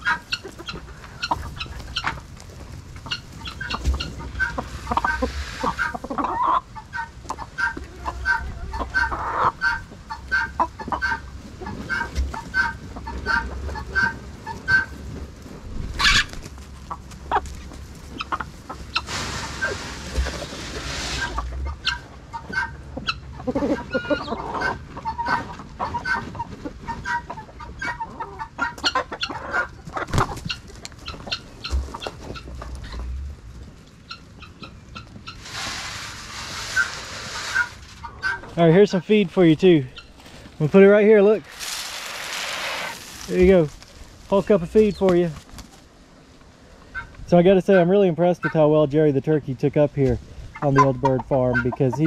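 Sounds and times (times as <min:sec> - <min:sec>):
hens clucking: 0:00.0 - 0:52.0.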